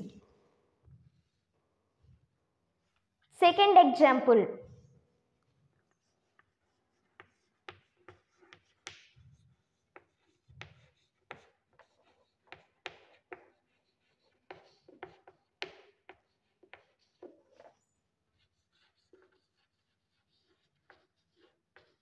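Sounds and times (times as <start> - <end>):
chalk writing on blackboard: 0.0 - 3.2, 4.6 - 22.0.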